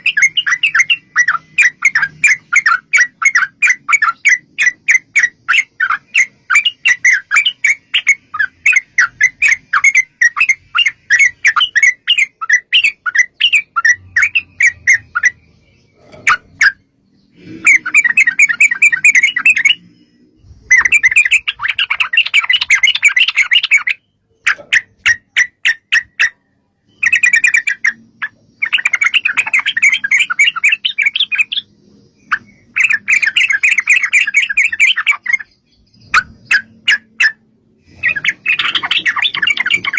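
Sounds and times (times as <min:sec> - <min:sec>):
birds chattering rapidly: 0:00.0 - 0:39.9
birds chirping: 0:00.0 - 0:39.9.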